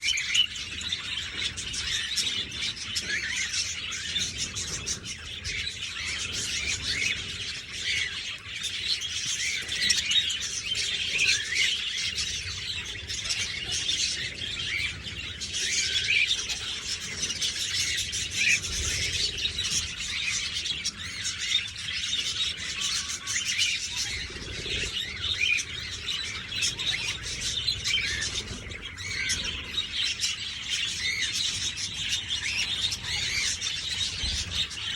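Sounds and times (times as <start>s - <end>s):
budgerigars chirping: 0.1s - 34.9s.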